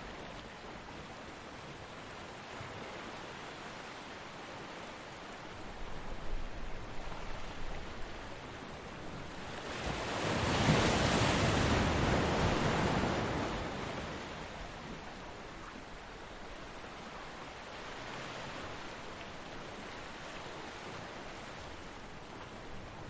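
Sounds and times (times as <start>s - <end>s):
surf washing on beach: 0.0s - 23.0s.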